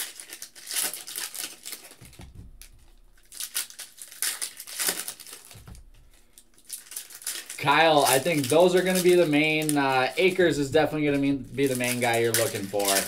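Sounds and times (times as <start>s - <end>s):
cards rustling: 0.0s - 13.0s
foil packs crinkling: 0.0s - 13.0s.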